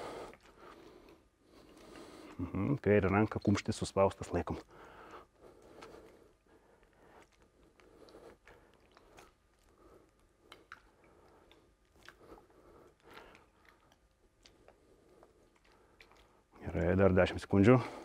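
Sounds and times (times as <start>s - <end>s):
faint crackles and clicks: 0.0s - 17.3s.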